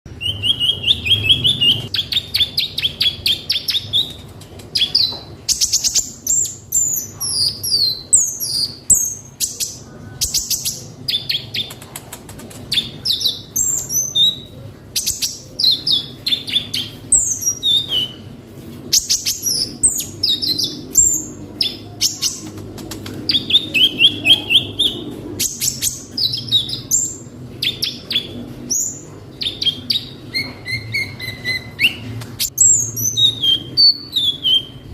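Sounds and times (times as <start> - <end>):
sunbird singing: 0.1 - 11.8, 12.7 - 22.6, 23.2 - 34.9.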